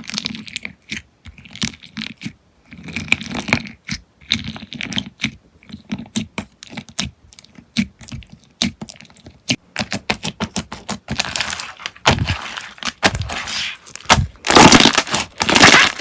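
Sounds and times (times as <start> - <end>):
slime squished by hand: 0.0 - 16.0.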